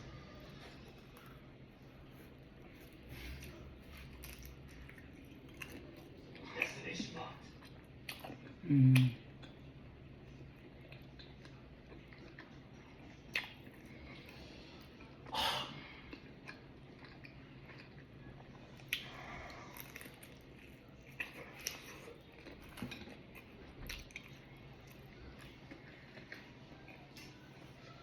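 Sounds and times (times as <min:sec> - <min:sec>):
person chewing pizza: 0:00.0 - 0:28.0.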